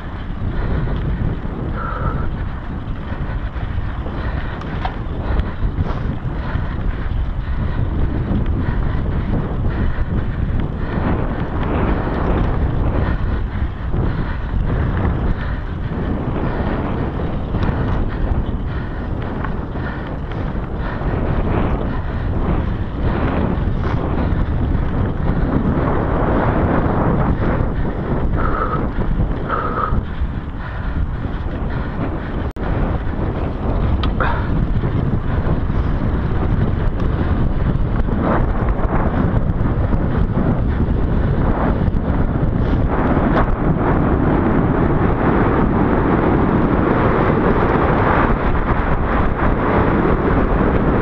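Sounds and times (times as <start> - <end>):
bike knocks and rattles: 0.0 - 45.6
wind buffeting microphone: 0.0 - 51.0.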